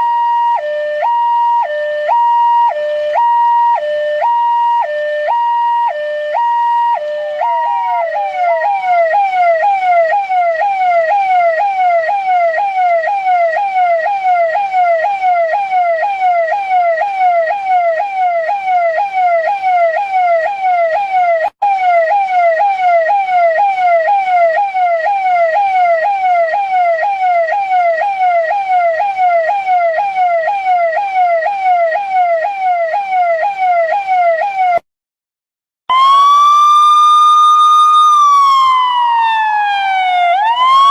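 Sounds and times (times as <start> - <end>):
police siren two-tone and sweep: 0.0 - 34.8, 35.9 - 40.9.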